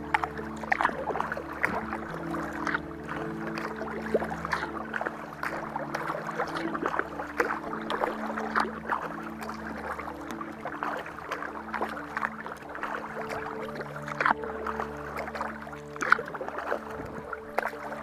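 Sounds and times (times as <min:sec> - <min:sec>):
paddle splashing in water: 0:00.0 - 0:18.0
soft music with held chords: 0:00.0 - 0:18.0
water dripping: 0:00.0 - 0:18.0.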